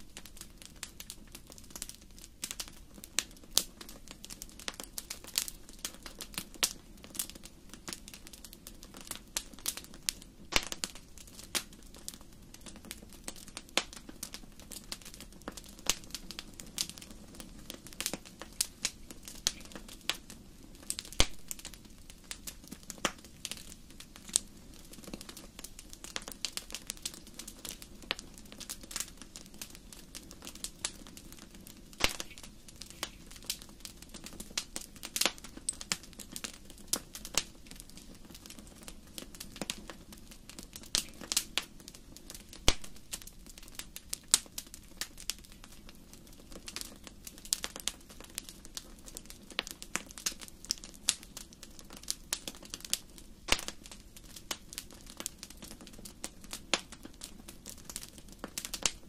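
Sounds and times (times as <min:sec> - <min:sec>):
low rush of flames: 0:00.0 - 0:59.0
wood fire crackling and popping: 0:00.0 - 0:59.0.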